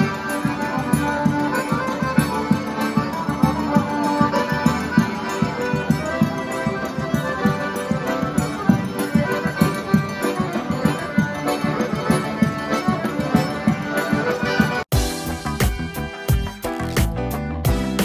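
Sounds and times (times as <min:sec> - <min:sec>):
accordions playing lively tune: 0:00.0 - 0:18.0.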